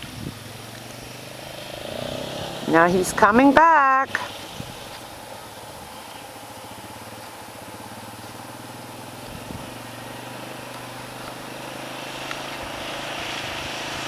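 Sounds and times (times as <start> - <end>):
atv engine running: 0.0 - 14.0
water spray hiss: 0.3 - 8.6, 9.2 - 14.0.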